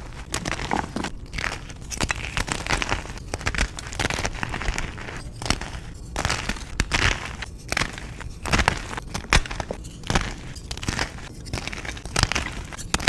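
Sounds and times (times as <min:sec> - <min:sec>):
chalk crunching and crackling: 0:00.0 - 0:13.0.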